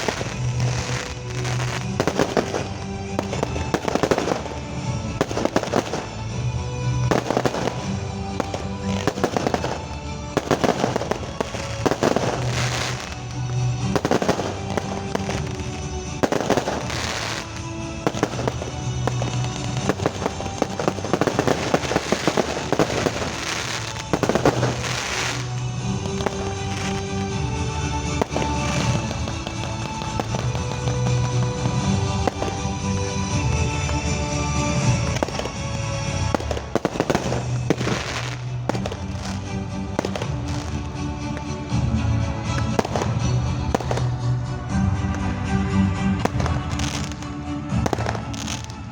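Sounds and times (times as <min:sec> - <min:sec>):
fireworks bursting and crackling: 0:00.0 - 0:48.9
music playing: 0:00.0 - 0:48.9.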